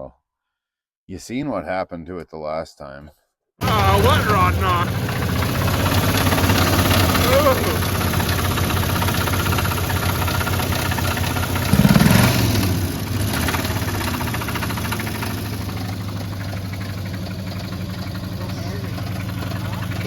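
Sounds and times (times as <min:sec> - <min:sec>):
engine idling with rod knock: 0:03.6 - 0:20.0
engine revving: 0:03.6 - 0:20.0.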